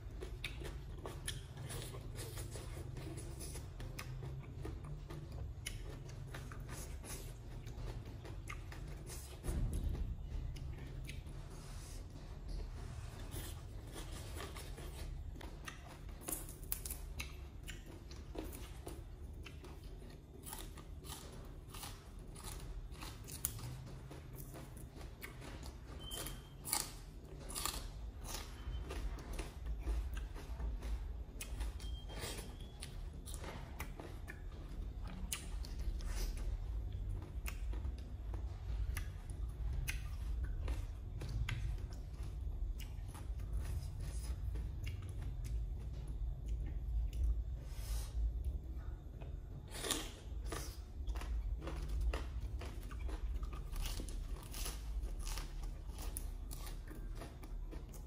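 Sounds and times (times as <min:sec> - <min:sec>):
person chewing crunchy salad: 0:00.0 - 0:58.0
steady low hum: 0:00.0 - 0:58.0.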